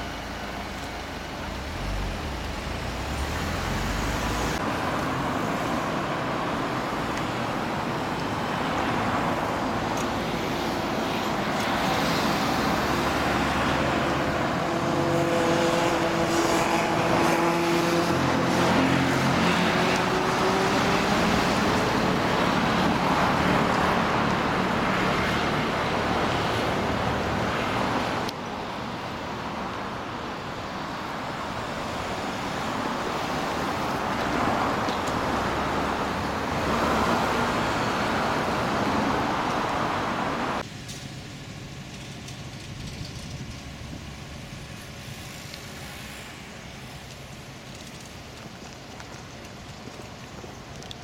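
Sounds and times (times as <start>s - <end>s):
cars going by on a busy road: 0.0s - 51.0s.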